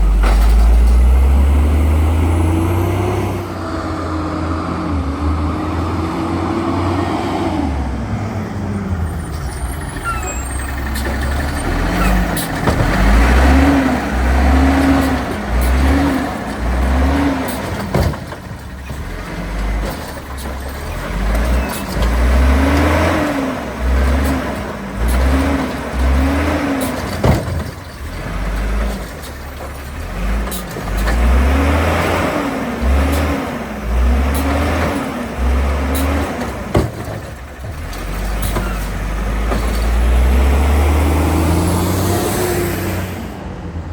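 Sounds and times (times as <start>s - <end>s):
garbage truck engine revving: 0.0s - 43.9s.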